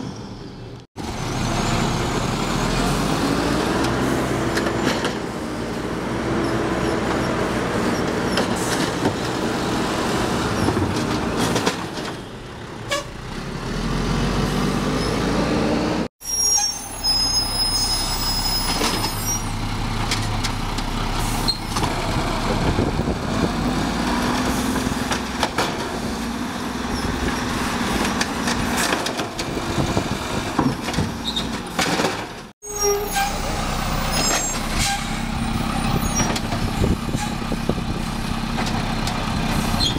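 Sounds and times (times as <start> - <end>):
refuse truck running: 0.0 - 39.9.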